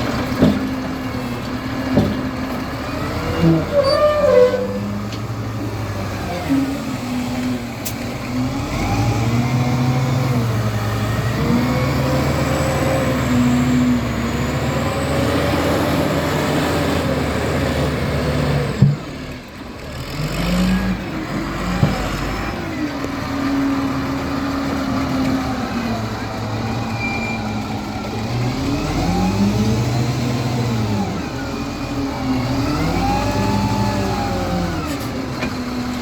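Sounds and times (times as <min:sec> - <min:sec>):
diesel engine revving under load: 0:00.0 - 0:36.0.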